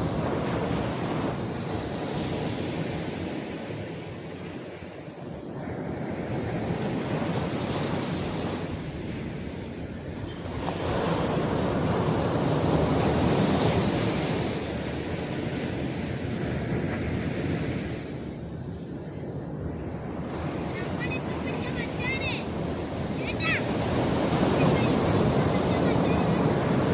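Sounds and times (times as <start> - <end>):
sea surf breaking on shore: 0.0 - 26.9
wind buffeting microphone: 0.0 - 26.9.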